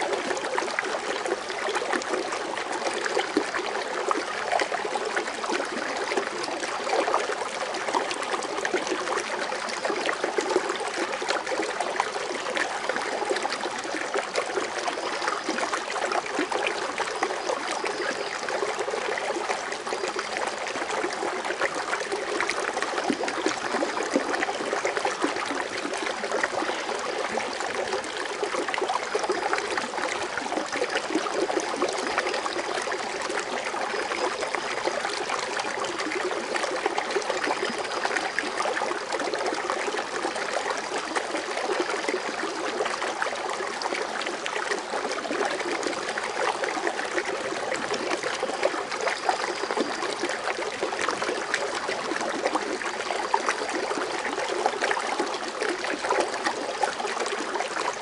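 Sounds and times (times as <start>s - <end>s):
water fountain splashing: 9.8s - 58.0s.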